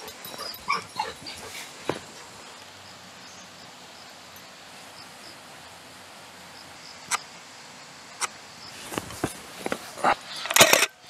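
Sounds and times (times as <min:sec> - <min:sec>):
faint insect chirps: 0:00.0 - 0:09.0.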